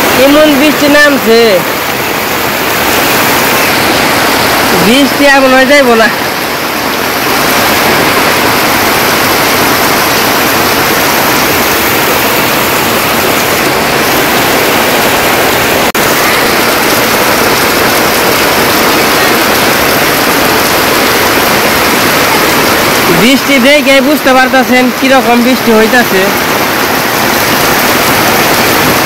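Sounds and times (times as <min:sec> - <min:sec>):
heavy rain on tin roofs: 0:00.0 - 0:29.0.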